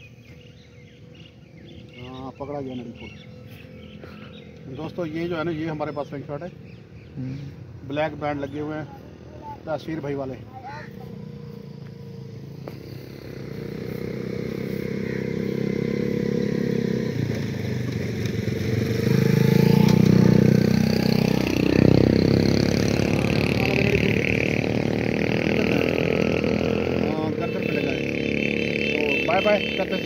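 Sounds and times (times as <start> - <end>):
vehicle engine passing by: 0.0 - 30.0.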